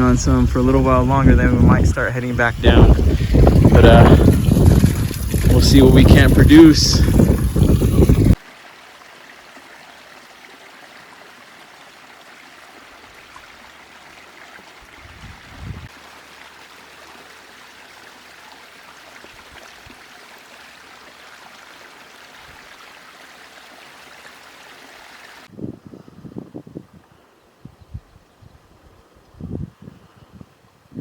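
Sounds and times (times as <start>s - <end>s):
stream and waterfall trickling: 0.0s - 25.5s.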